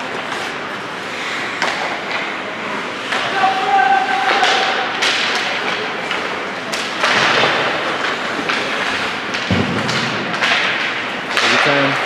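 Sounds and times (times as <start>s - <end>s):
skates scraping on ice: 0.0s - 12.0s
sticks and puck clattering: 0.0s - 12.0s.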